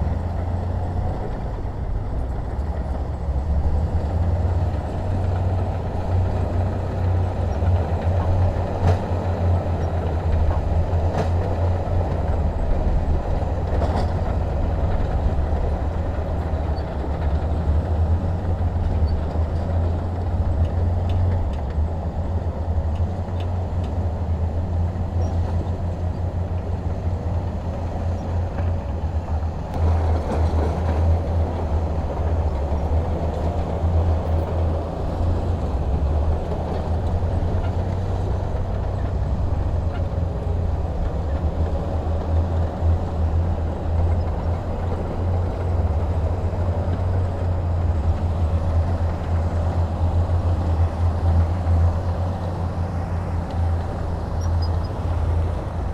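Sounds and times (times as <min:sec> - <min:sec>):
diesel engine rumbling: 0:00.0 - 0:55.9.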